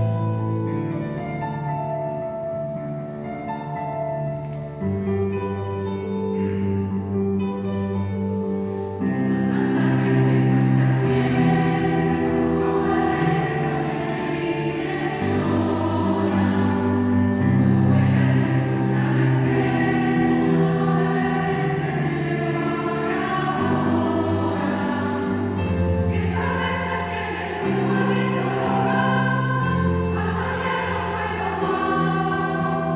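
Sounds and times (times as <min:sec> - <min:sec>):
choir singing sustained chords: 0:00.0 - 0:32.9.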